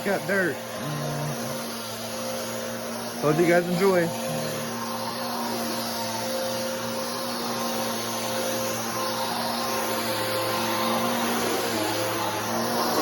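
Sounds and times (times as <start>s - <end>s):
upright vacuum running: 0.0s - 13.0s.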